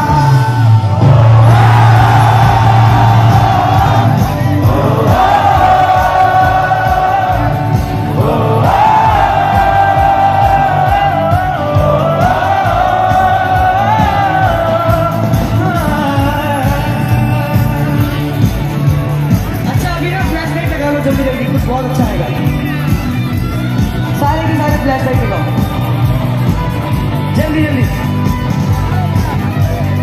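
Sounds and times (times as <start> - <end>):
heavy bass: 0.0 - 30.0
steady drum beat: 0.0 - 30.0.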